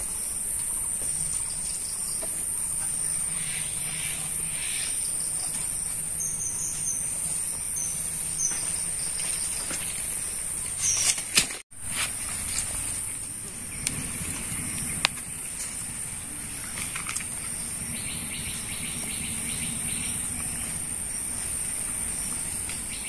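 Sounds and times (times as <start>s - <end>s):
insects droning: 0.0s - 23.0s
bird chirps: 0.1s - 11.2s, 12.6s - 23.0s.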